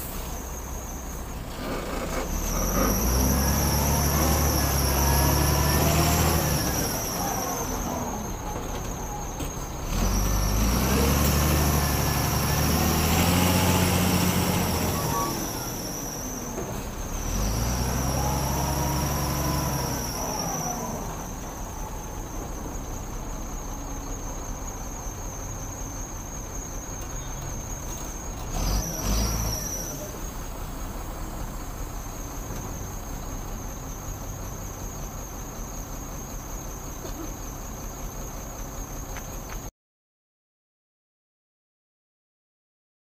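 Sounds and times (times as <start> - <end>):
heavy diesel engine: 0.0 - 39.7.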